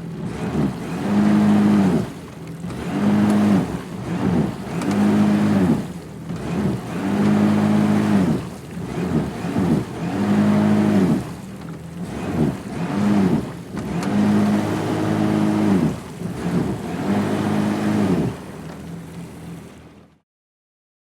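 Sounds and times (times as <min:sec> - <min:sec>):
jet ski engine revving: 0:00.0 - 0:20.2.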